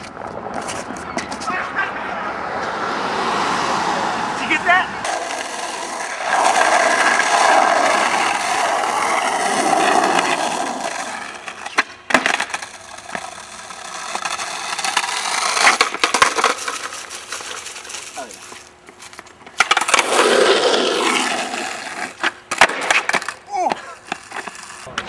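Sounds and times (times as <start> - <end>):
skateboard clacking on ground: 0.0 - 1.9, 5.0 - 25.0
skateboard wheels rolling on asphalt: 0.0 - 25.0.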